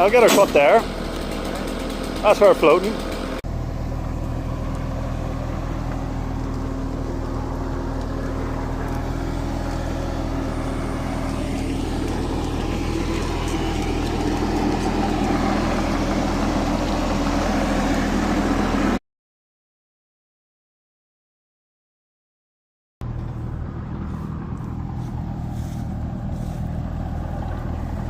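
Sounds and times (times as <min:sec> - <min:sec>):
diesel engine running: 0:00.0 - 0:19.0, 0:23.0 - 0:28.0.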